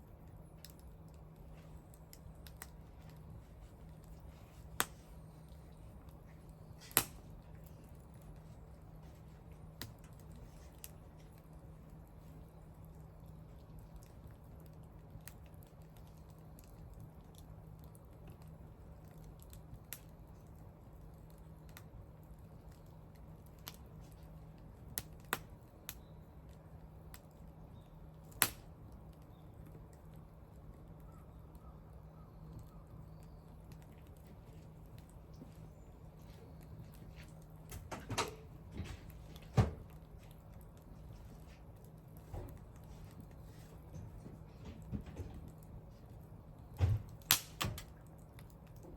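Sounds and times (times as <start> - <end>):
burning wood popping: 0.0 - 48.9
wood fire crackling: 0.0 - 48.9.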